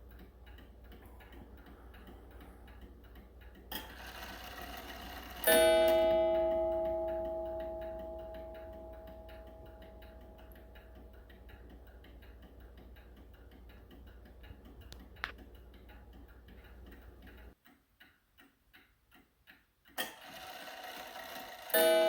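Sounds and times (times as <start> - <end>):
clock click: 0.0 - 22.0
clock ticking: 0.0 - 22.0.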